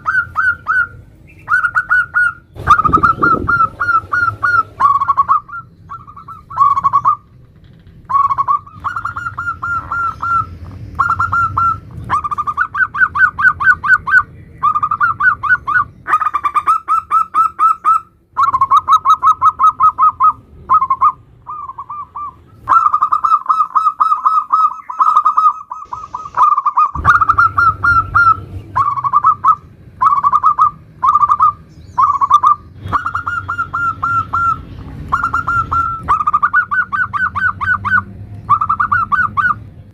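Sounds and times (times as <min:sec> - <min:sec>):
dove cooing: 0:00.0 - 0:07.4, 0:08.1 - 0:39.6.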